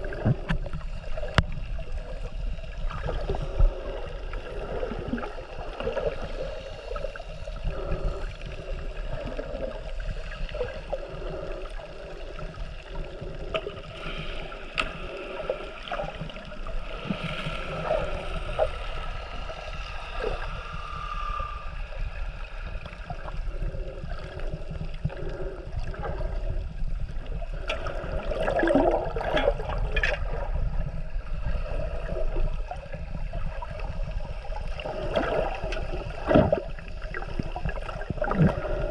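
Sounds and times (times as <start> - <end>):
water gurgling and splashing: 0.0 - 38.9.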